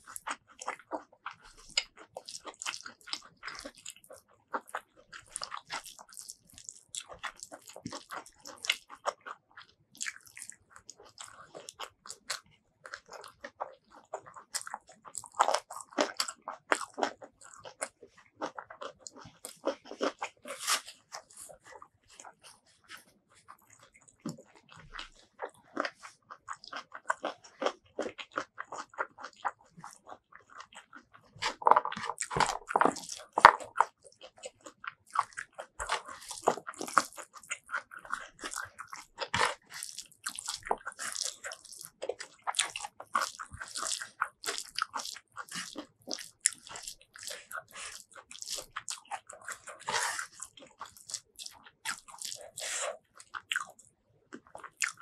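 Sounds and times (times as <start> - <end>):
fingers squishing wet rice: 0.0 - 55.0
moist crunchy chewing: 0.0 - 55.0.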